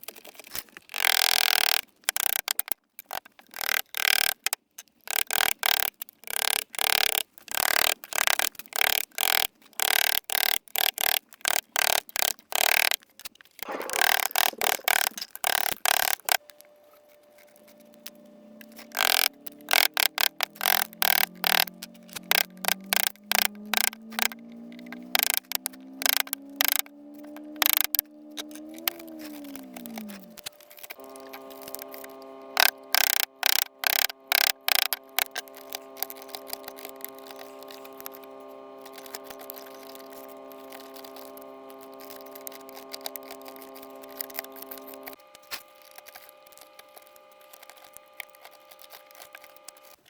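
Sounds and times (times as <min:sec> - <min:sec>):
blade carving wood: 0:00.0 - 0:50.0.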